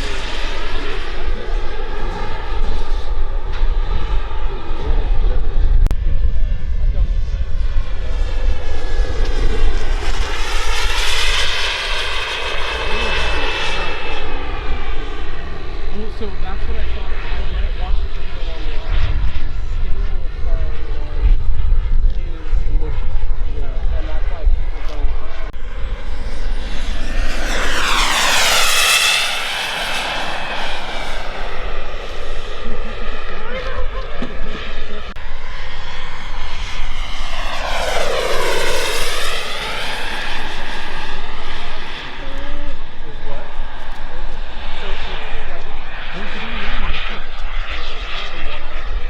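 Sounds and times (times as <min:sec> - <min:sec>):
model jet turbine whining past: 0:00.0 - 0:49.0
wind rumble on microphone: 0:00.0 - 0:49.0.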